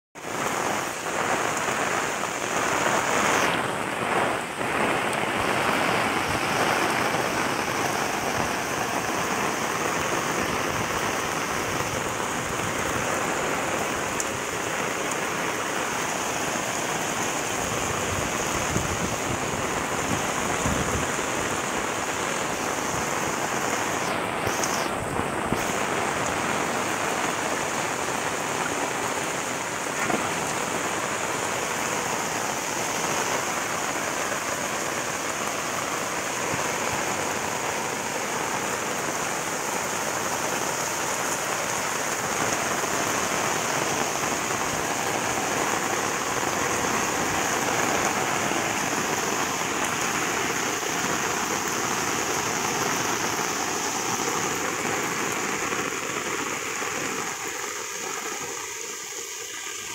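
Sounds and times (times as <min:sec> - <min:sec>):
heavy rain hissing: 0:00.2 - 0:59.9.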